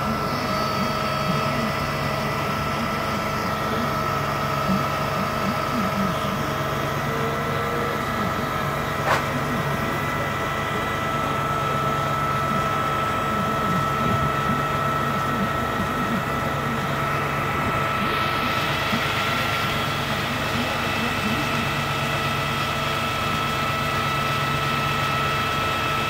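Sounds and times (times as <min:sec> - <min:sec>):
high whine: 0:00.0 - 0:26.0
truck engine running: 0:00.0 - 0:26.0.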